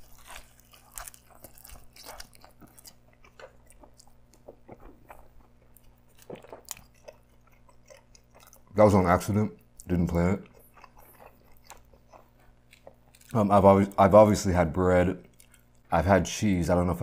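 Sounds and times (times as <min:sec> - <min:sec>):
chewing with crunches: 0:00.0 - 0:14.2, 0:14.9 - 0:15.9.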